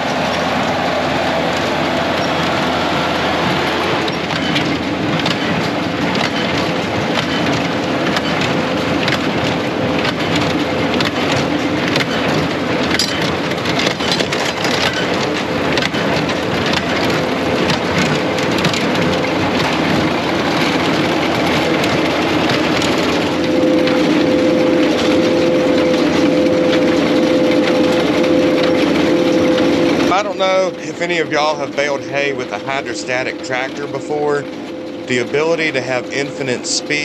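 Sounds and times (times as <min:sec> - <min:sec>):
tractor engine hum: 0:00.0 - 0:37.0.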